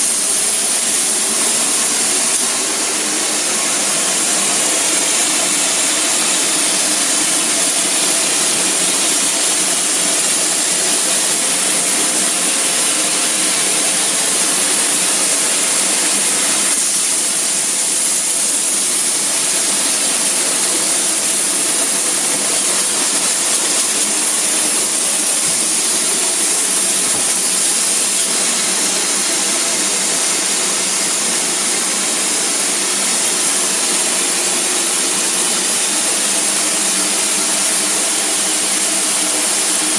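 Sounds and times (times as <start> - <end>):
foam gun spraying hiss: 0.0 - 39.9.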